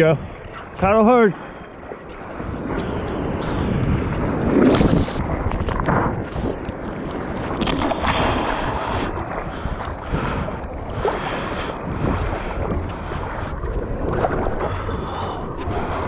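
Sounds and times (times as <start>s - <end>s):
ocean water splashing: 0.0s - 16.0s
wind buffeting microphone: 0.0s - 16.0s.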